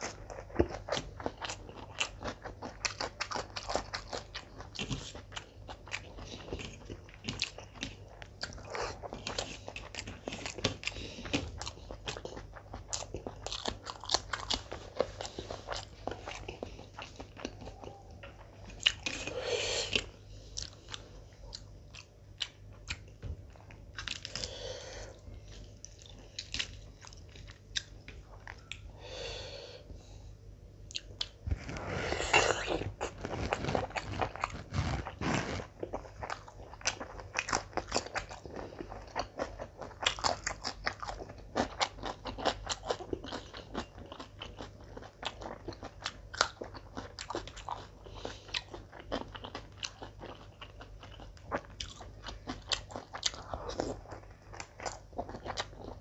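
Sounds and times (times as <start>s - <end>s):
wet chewing and lip-smacking: 0.0s - 19.3s, 19.9s - 24.5s, 25.4s - 28.9s, 30.8s - 31.4s, 32.4s - 56.0s
biting and chewing: 0.0s - 28.9s, 30.8s - 56.0s.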